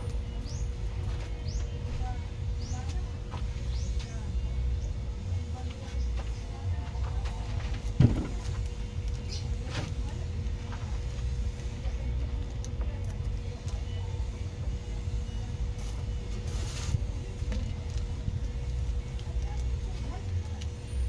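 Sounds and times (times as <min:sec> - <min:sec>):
car engine running: 0:00.0 - 0:21.0
thin steady whine: 0:00.0 - 0:21.0.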